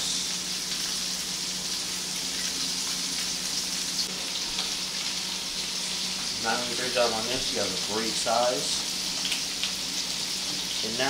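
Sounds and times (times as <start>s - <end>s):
onions sizzling in frying pan: 0.0s - 11.0s.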